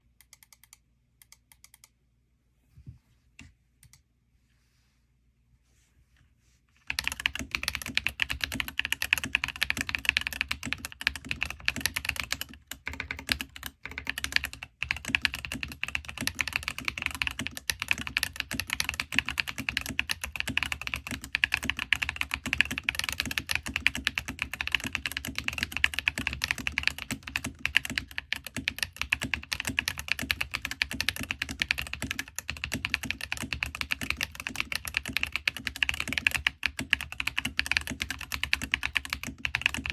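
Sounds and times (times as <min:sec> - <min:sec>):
mechanical keyboard typing: 0:06.9 - 0:39.9.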